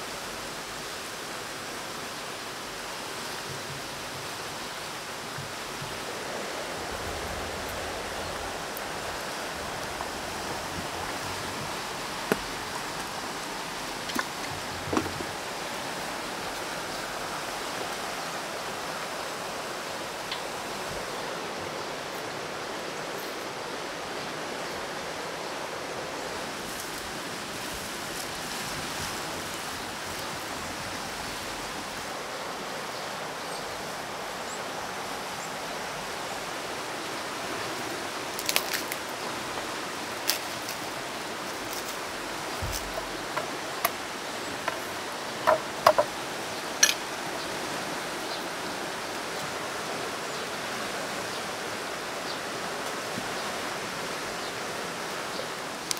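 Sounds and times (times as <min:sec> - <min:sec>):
steady rushing hiss: 0:00.0 - 0:55.9.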